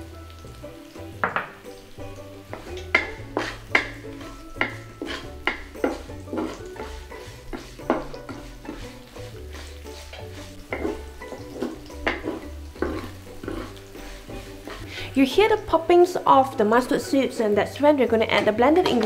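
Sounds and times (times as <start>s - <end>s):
food sizzling in oil: 0.0s - 19.0s
wooden spatula scraping wok: 1.2s - 17.4s, 18.1s - 19.0s.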